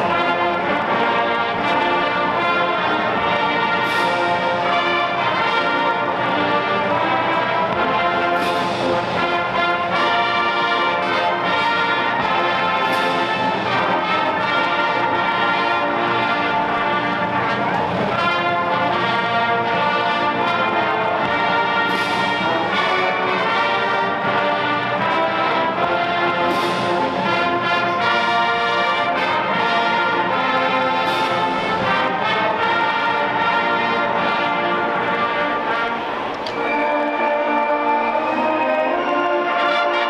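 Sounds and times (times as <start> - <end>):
marching band brass chords: 0.0 - 40.0.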